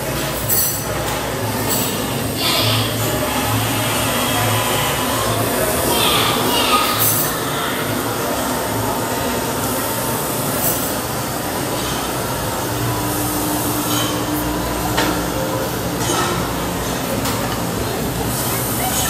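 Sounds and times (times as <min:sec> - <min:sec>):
busy cafe background din: 0:00.0 - 0:19.0.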